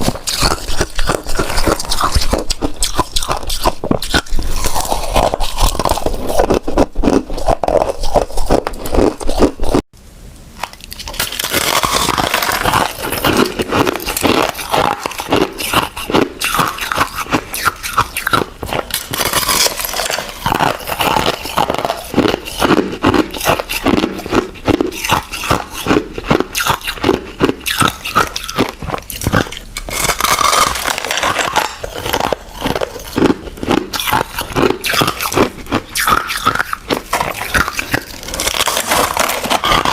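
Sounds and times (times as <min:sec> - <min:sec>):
ice being chewed: 0:00.0 - 0:09.9, 0:10.6 - 0:39.9.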